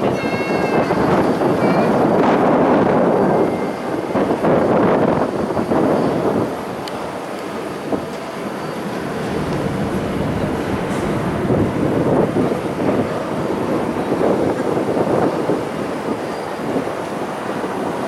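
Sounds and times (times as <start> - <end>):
jet airliner engine rumble: 0.0 - 18.0.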